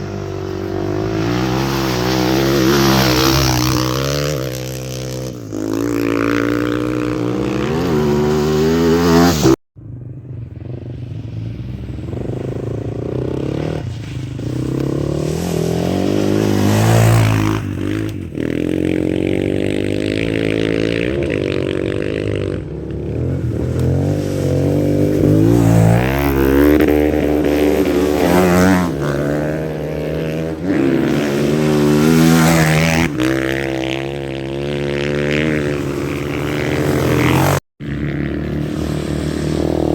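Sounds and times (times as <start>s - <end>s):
motorcycles passing at speed: 0.0s - 39.9s.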